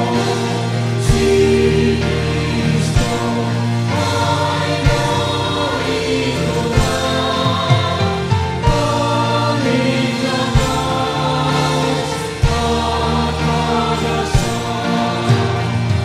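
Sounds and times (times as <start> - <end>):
choir voices: 0.0 - 16.0
live band playing: 0.0 - 16.0.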